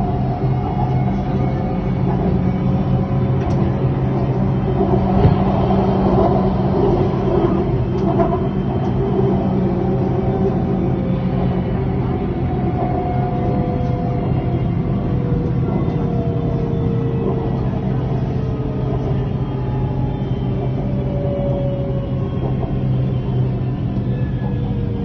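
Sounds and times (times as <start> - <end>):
train rumble: 0.0 - 25.0
faint whines dropping in pitch: 0.1 - 25.0.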